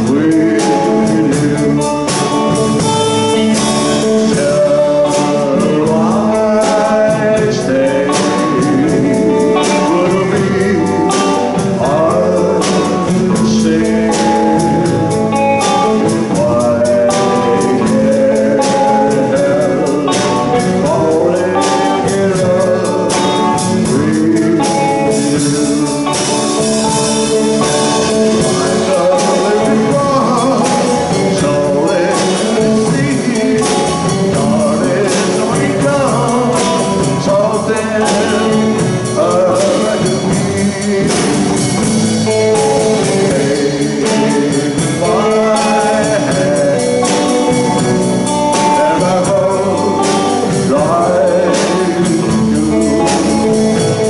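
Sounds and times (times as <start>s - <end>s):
live band playing: 0.0s - 54.0s
man singing: 0.0s - 54.0s
steady drum beat: 0.0s - 54.0s.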